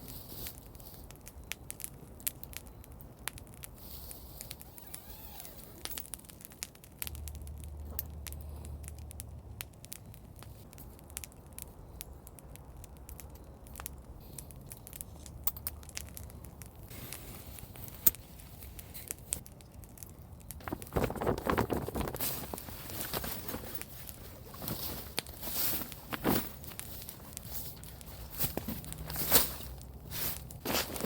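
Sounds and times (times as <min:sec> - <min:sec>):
campfire crackling and popping: 0:00.0 - 0:31.0
low fire rumble: 0:00.0 - 0:31.0.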